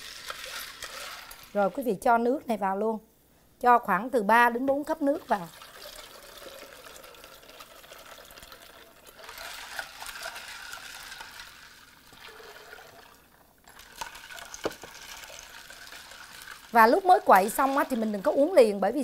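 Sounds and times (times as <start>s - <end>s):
water pouring into pitcher: 0.0s - 1.7s, 4.9s - 19.0s
spoon stirring liquid: 0.0s - 1.9s, 4.6s - 18.8s.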